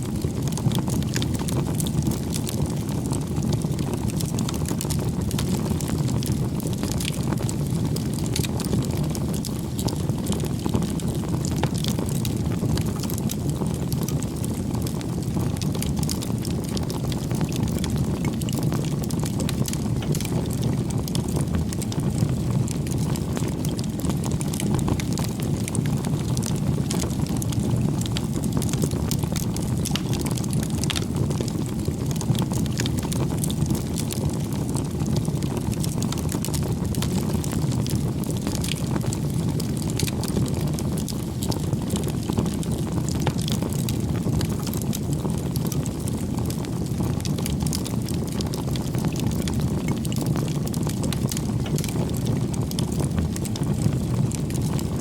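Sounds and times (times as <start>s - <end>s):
bonfire burning: 0.0s - 55.0s.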